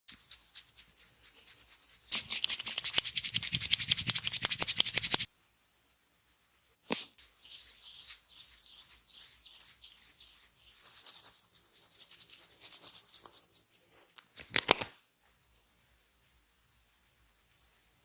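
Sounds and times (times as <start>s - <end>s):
hands rubbing over skin: 0.1s - 15.0s.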